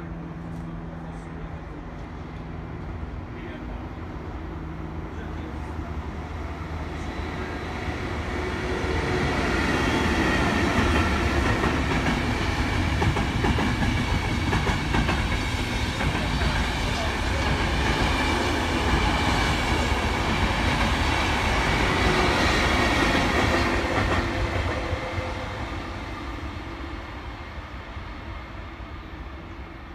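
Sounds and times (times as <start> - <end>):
electric train passing: 0.0 - 29.9.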